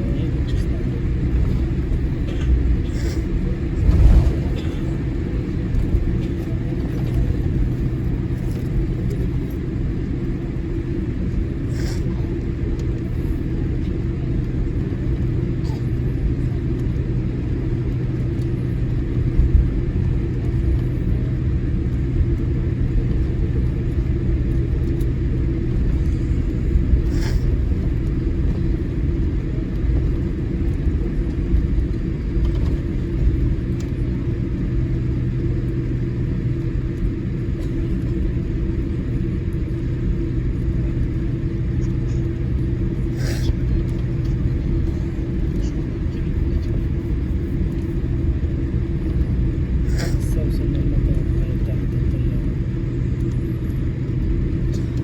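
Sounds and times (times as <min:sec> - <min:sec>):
airliner cabin rumble and hum: 0:00.0 - 0:55.0.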